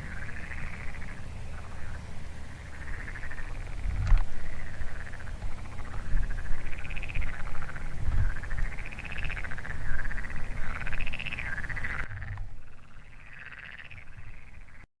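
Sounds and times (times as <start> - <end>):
low rumble: 0.0 - 13.2
chorus of frogs croaking: 0.0 - 14.9.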